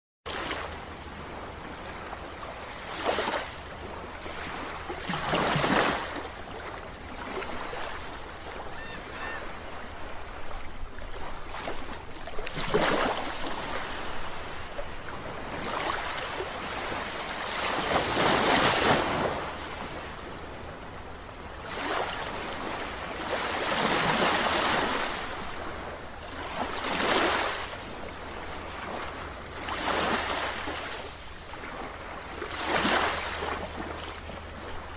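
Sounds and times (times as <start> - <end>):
sea waves breaking on beach: 0.3 - 34.9.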